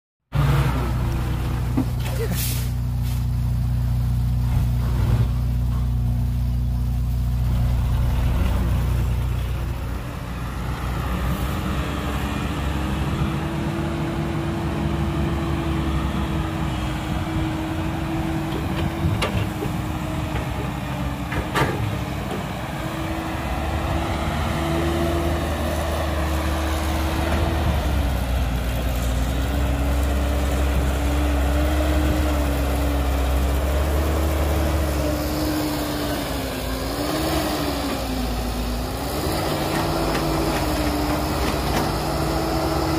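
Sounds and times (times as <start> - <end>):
heavy diesel engines running: 0.3 - 42.9.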